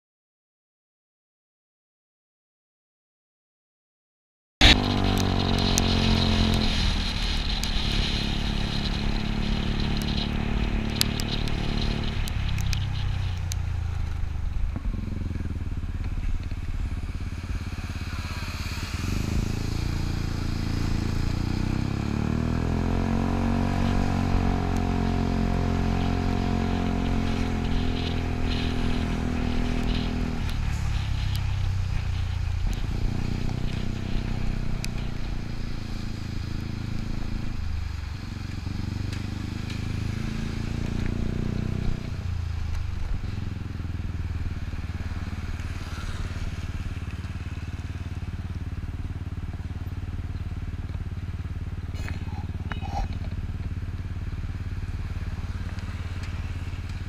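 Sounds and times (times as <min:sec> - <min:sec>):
scooter engine running: 0:04.6 - 0:57.0
tyre and wind noise on wet road: 0:04.6 - 0:57.0.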